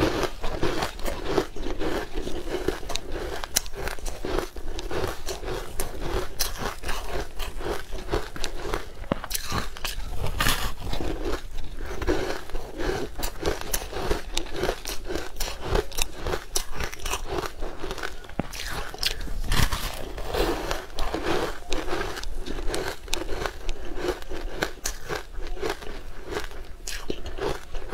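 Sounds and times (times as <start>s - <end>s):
chewing and crunching food: 0.0s - 27.9s.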